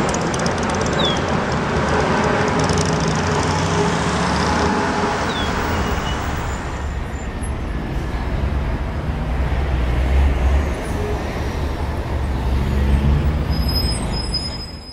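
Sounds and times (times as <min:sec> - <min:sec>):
dense expressway traffic rumble: 0:00.0 - 0:14.9.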